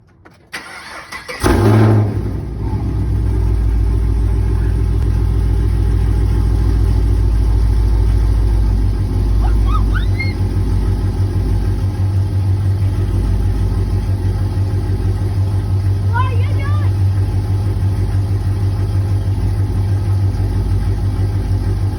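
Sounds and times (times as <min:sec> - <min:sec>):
car engine starting and idling: 0:00.2 - 0:21.9.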